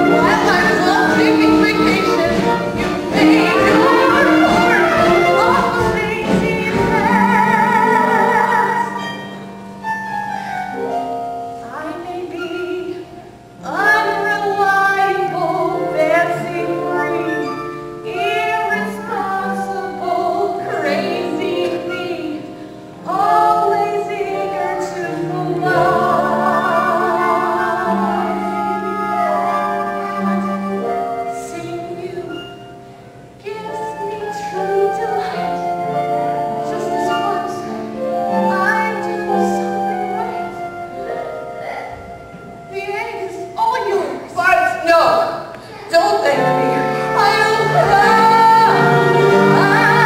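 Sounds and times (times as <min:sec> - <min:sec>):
woman singing with vibrato: 0:00.0 - 0:09.4, 0:11.6 - 0:32.7, 0:33.4 - 0:41.6, 0:42.2 - 0:50.0
instrumental accompaniment: 0:00.0 - 0:50.0.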